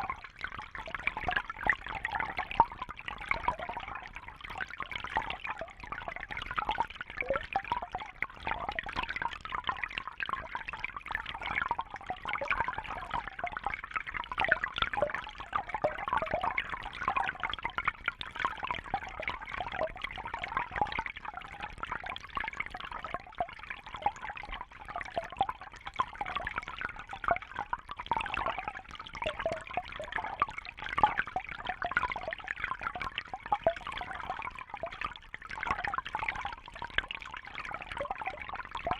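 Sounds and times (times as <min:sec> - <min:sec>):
water trickling and bubbling: 0:00.0 - 0:38.9.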